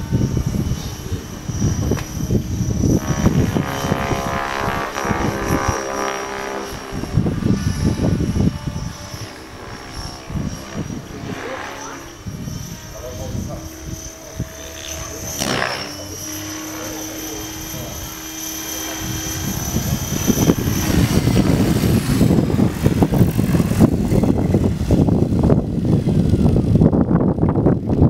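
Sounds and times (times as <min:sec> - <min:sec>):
model helicopter rotor whine: 0:00.0 - 0:28.0.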